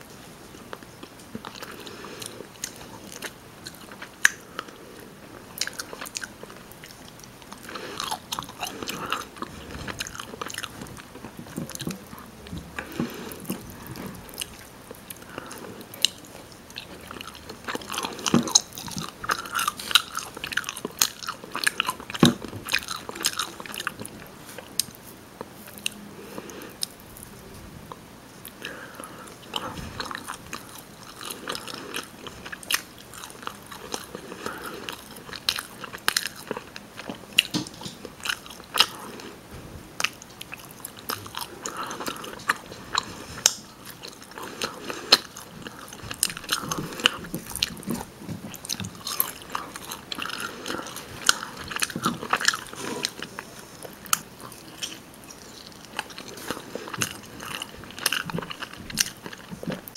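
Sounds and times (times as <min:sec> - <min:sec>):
person chewing chicken: 0:00.6 - 0:27.2, 0:28.4 - 0:39.4, 0:40.0 - 0:59.9.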